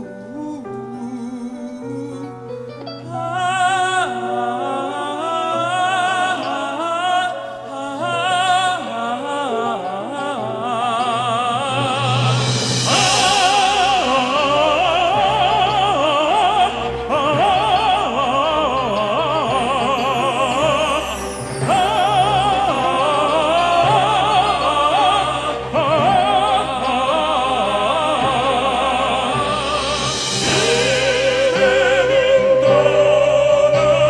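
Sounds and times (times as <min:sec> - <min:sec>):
orchestral backing: 0:00.0 - 0:34.0
vocal quartet singing: 0:00.0 - 0:34.0.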